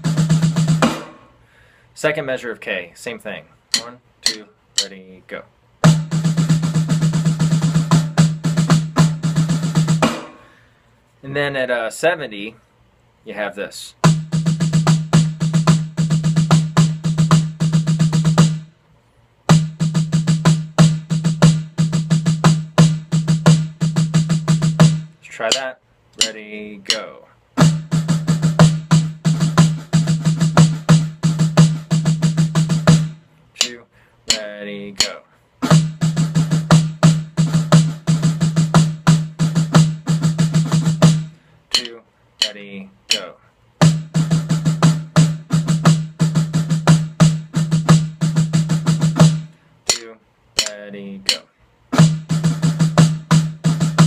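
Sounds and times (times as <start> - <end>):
snare drum rolls: 0.0 - 1.3, 5.8 - 10.4, 14.0 - 18.7, 19.5 - 34.4, 35.0 - 43.2, 43.8 - 54.0.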